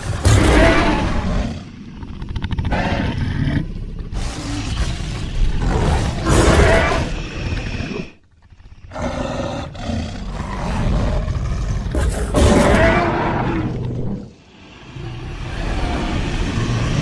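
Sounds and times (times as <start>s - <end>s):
dragon roar: 0.0s - 8.2s, 8.9s - 17.0s
tonal growling call: 0.0s - 17.0s.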